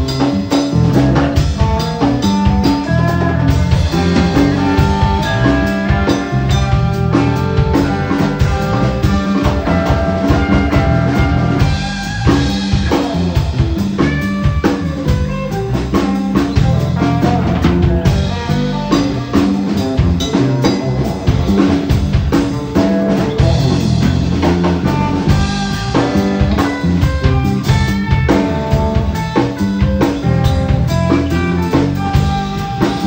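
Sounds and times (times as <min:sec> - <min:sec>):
drum kit beat: 0:00.0 - 0:33.0
electric guitar: 0:00.0 - 0:33.0.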